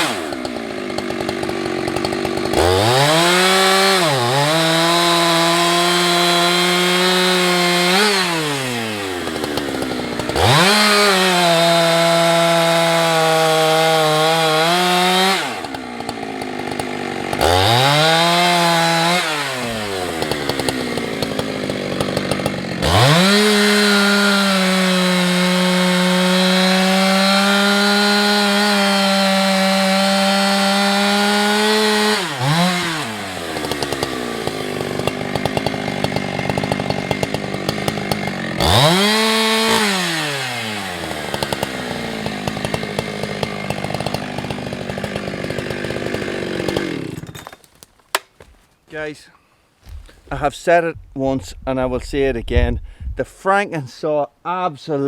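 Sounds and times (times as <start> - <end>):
chainsaw cutting through wood: 0.0 - 48.4.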